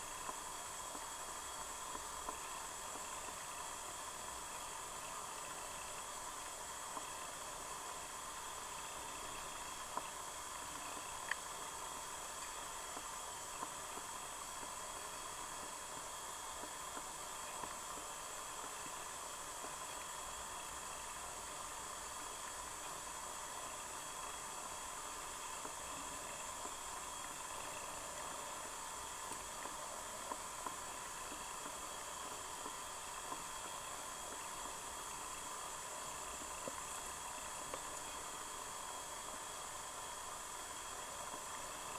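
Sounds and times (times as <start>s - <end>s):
underwater stream hiss: 0.0s - 41.9s
faint clicks: 0.1s - 21.2s, 25.0s - 39.4s.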